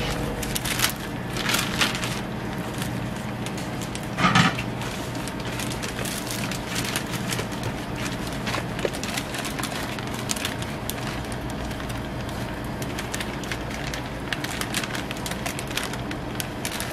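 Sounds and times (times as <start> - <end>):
plastic bag crinkling: 0.0 - 16.9
steady low hum: 0.0 - 16.9.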